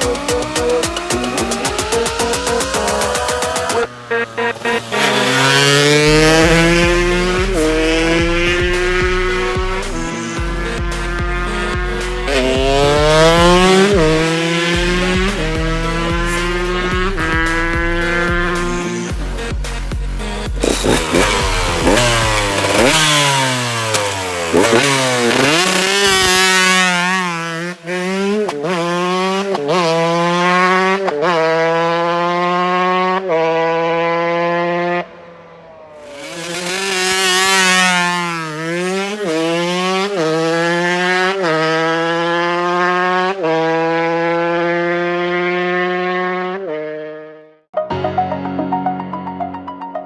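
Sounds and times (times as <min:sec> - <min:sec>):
two-stroke engine at high revs: 0:00.0 - 0:47.7.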